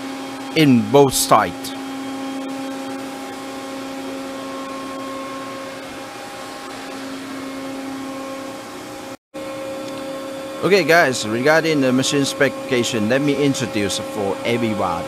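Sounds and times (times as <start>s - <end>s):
industrial machinery humming: 0.0s - 15.0s.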